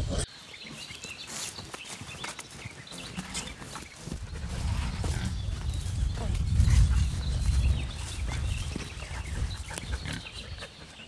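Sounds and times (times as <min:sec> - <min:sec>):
animals rustling in pen: 0:00.5 - 0:11.0.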